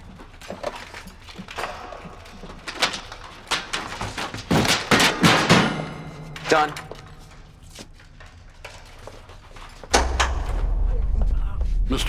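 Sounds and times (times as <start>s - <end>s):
knocks and clatter of repair work: 0.0s - 10.9s.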